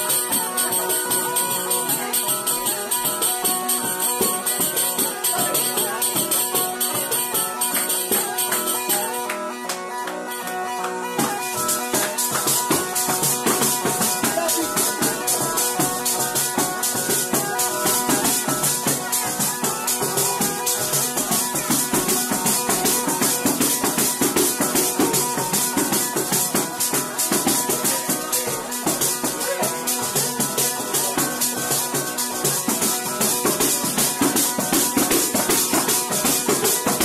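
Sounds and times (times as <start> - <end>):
frame drum with jingles: 0.0 - 9.1, 11.2 - 37.0
bagpipe playing: 0.0 - 37.0.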